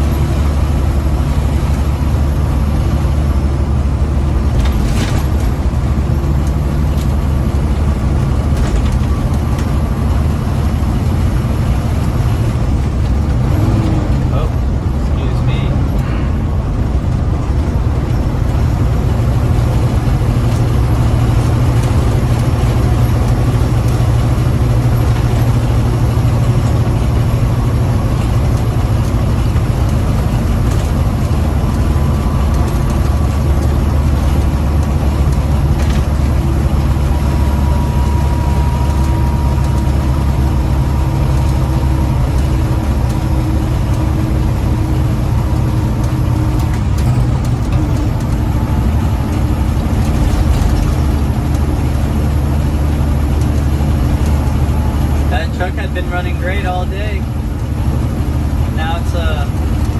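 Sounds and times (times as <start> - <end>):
truck diesel engine drone: 0.0 - 59.9.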